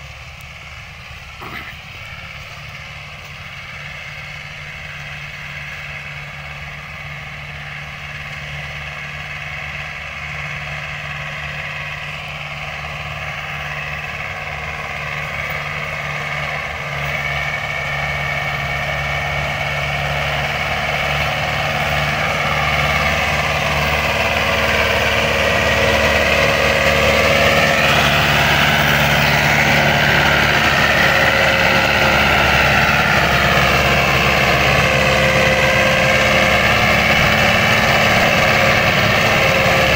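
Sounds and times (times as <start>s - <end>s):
tractor diesel engine working: 0.0s - 39.9s.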